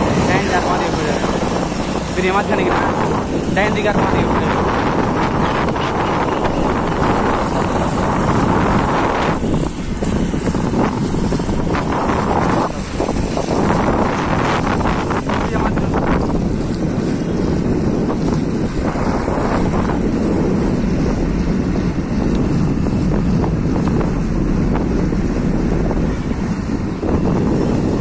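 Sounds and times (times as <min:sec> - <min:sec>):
low rumble: 0:00.0 - 0:28.0
wind buffeting microphone: 0:00.0 - 0:28.0.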